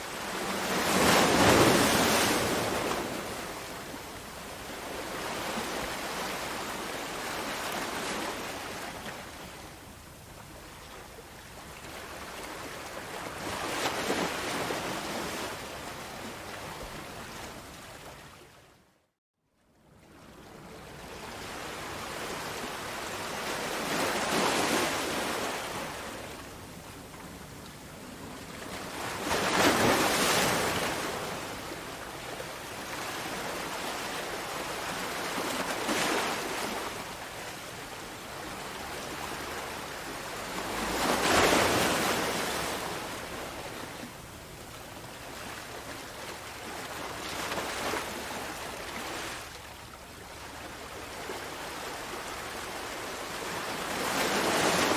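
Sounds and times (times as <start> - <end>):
sea waves breaking on shore: 0.0 - 9.8, 11.6 - 18.6, 20.4 - 54.9.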